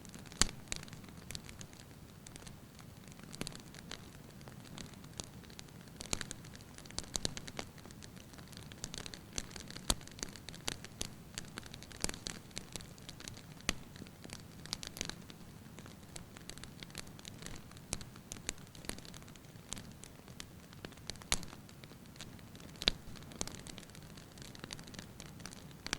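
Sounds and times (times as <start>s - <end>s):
firewood crackling and popping: 0.0s - 25.9s.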